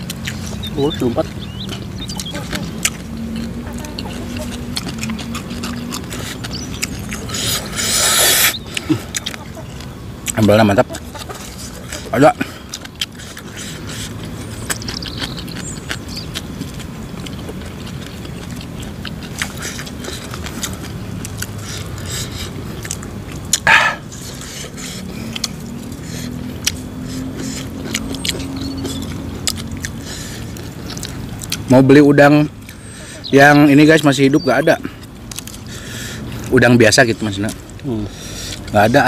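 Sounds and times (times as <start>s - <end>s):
chewing and crunching food: 0.0s - 39.0s.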